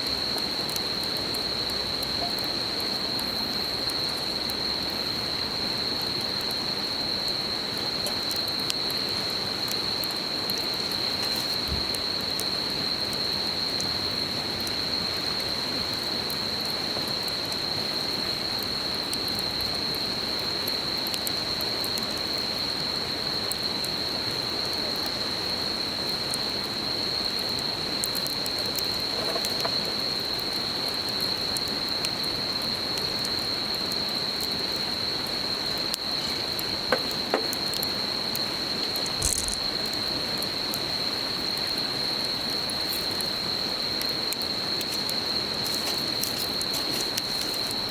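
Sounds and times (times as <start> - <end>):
high insect trill: 0.0 - 47.9
campfire crackling and popping: 0.1 - 47.9.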